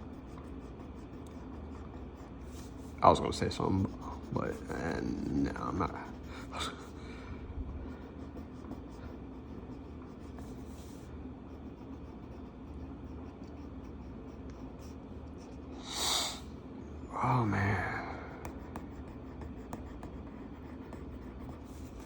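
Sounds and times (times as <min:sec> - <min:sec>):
marker scratching on paper: 0:00.0 - 0:07.0, 0:07.8 - 0:15.8, 0:18.4 - 0:22.0
steady low hum: 0:00.0 - 0:22.0.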